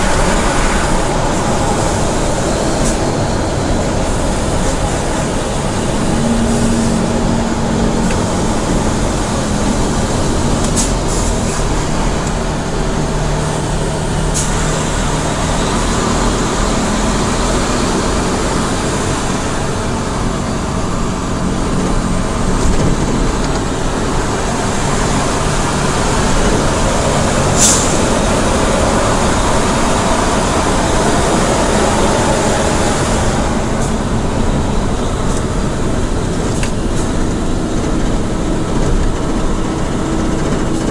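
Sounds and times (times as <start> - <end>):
truck diesel engine rumble: 0.0 - 40.9.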